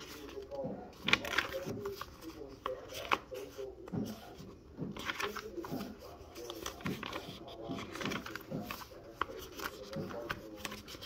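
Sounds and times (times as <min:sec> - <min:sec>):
low murmur of voices: 0:00.0 - 0:11.0
notebook pages turning: 0:00.0 - 0:11.0.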